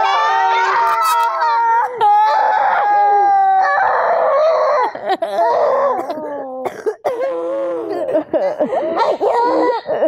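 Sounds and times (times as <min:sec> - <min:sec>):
girls sobbing and wailing: 0:00.0 - 0:10.0.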